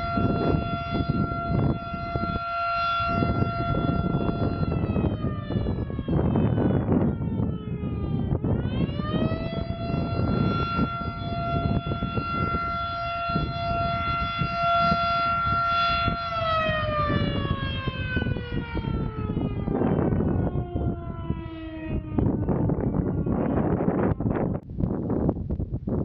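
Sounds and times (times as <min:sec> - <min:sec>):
warning siren: 0:00.0 - 0:24.6
wind rumble on microphone: 0:00.0 - 0:26.0.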